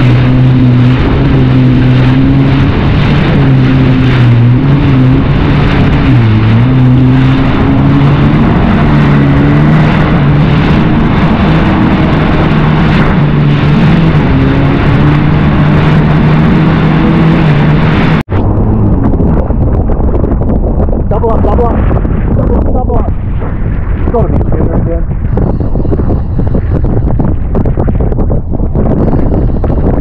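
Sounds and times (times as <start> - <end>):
rush of wind and water: 0.0 - 30.0
watercraft engine running: 0.0 - 30.0.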